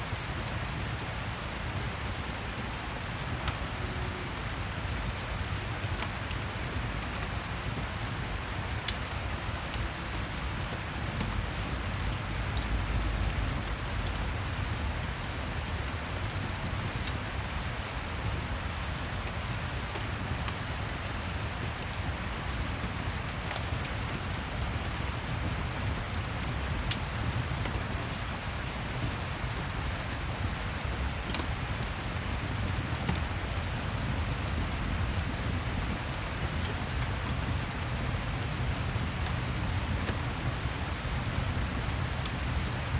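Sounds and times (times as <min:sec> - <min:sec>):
steady rain: 0:00.0 - 0:42.9
fireplace crackling and popping: 0:00.2 - 0:42.9.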